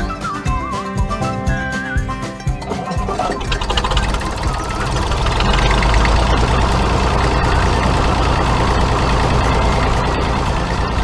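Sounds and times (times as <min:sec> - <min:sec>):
tractor engine running: 0:01.4 - 0:11.0.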